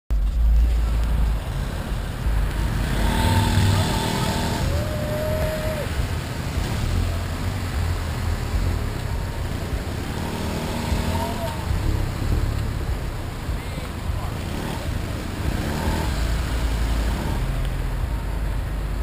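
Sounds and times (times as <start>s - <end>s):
cars passing: 0.1s - 19.0s
scooter road noise: 0.1s - 19.0s.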